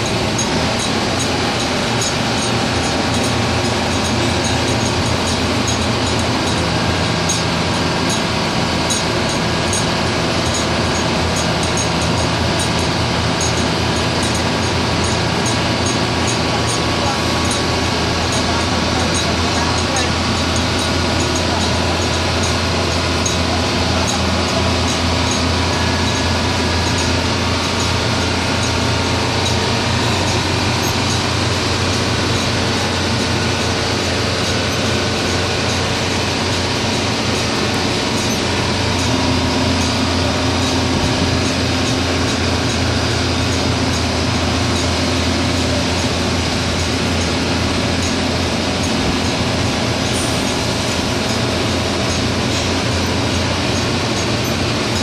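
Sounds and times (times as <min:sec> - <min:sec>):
drilling rig machinery drone: 0:00.0 - 0:55.0.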